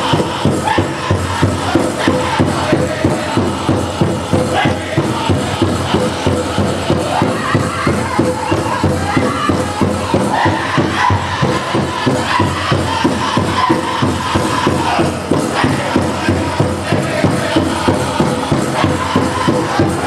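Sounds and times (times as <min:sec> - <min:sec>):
high-pitched group singing: 0:00.0 - 0:20.0
steady drumbeat: 0:00.0 - 0:20.0.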